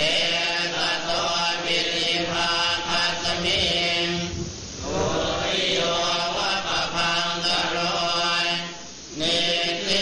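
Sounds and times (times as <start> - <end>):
chanting in drawn-out tones: 0.0 - 10.0.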